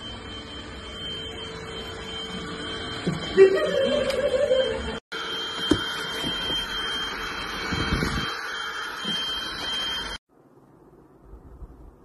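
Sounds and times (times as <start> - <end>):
stick vacuum running: 0.0 - 10.2.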